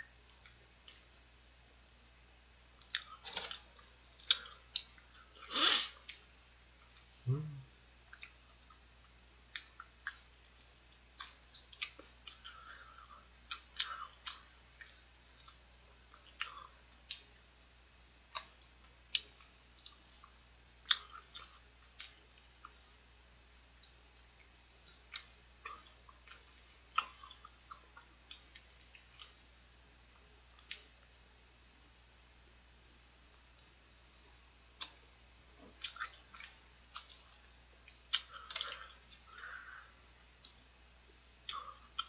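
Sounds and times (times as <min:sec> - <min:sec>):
crisp chewing of fried chicken: 0:02.6 - 0:07.2, 0:08.0 - 0:42.0.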